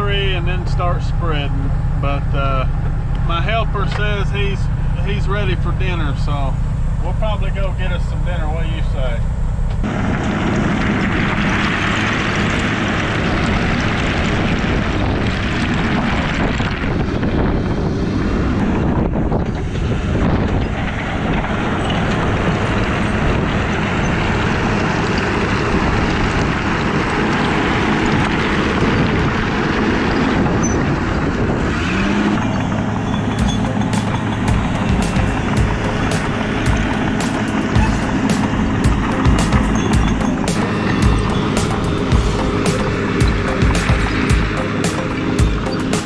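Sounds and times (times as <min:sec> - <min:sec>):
heavy machine engine rumbling: 0:00.0 - 0:46.0.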